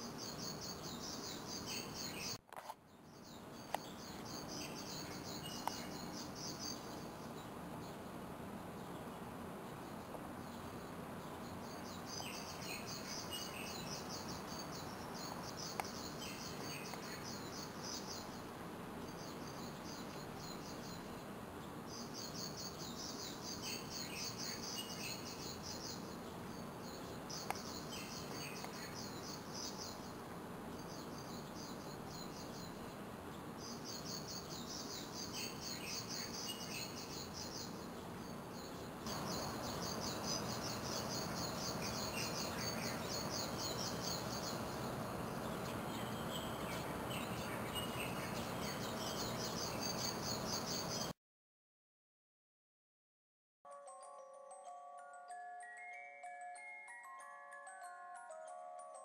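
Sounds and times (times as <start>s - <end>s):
steady hiss: 3.1s - 51.1s.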